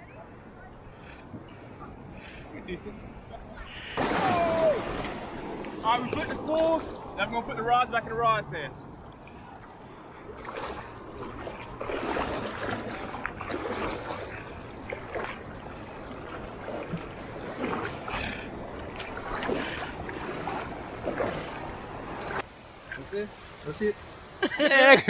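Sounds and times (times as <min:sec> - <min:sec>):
surf sloshing and splashing: 0:00.8 - 0:24.9.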